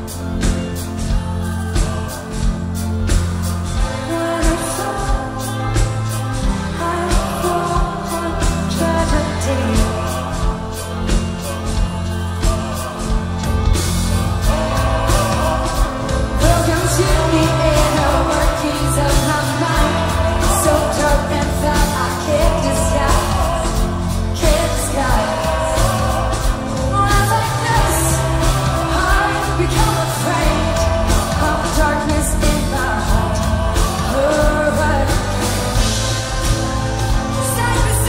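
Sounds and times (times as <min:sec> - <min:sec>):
drums: 0:00.0 - 0:38.0
woman singing: 0:03.7 - 0:11.7, 0:14.2 - 0:36.4, 0:37.1 - 0:38.0
heavy steady bass: 0:05.3 - 0:38.0.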